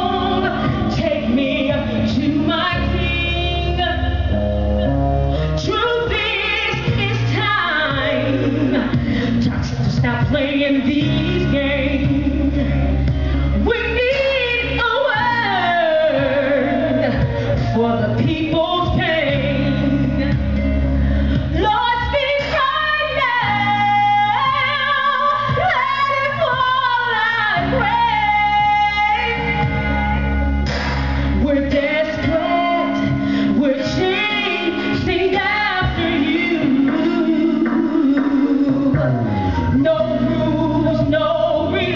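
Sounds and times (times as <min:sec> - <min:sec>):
woman singing: 0:00.0 - 0:04.4, 0:05.6 - 0:30.6, 0:31.3 - 0:41.9
instrumental accompaniment with bass: 0:00.0 - 0:41.9.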